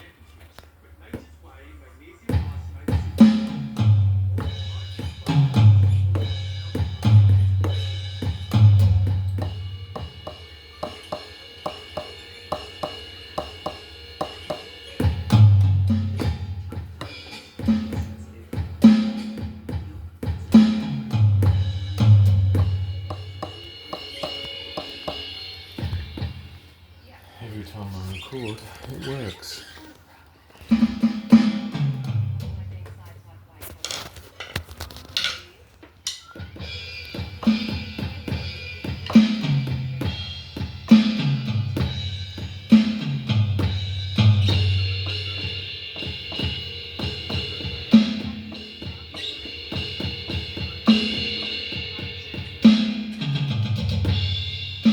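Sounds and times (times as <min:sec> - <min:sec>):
electronic drum kit playing: 0:02.3 - 0:26.7, 0:30.6 - 0:32.8, 0:36.2 - 0:54.9.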